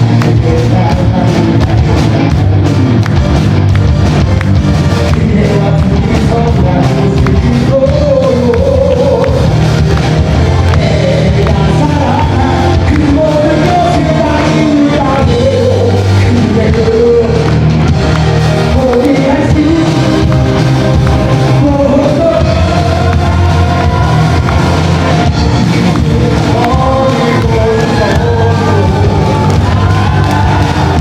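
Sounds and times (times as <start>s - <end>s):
lead singer's voice: 0.0s - 3.1s, 4.9s - 31.0s
live rock band playing: 0.0s - 31.0s.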